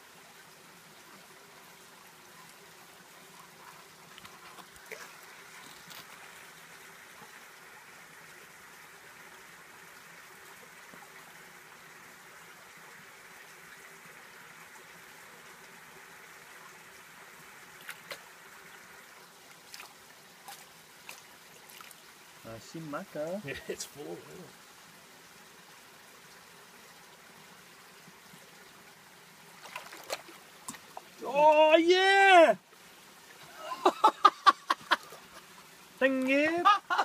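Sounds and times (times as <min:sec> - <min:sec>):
background hiss: 0:00.0 - 0:37.0.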